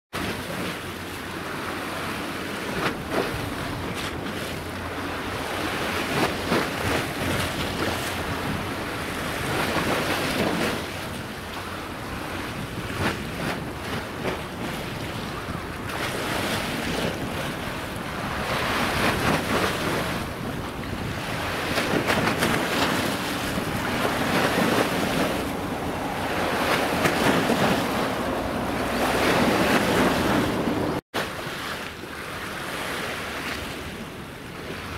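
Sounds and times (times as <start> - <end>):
wind buffeting microphone: 0.2 - 31.0
waves splashing: 0.2 - 34.9.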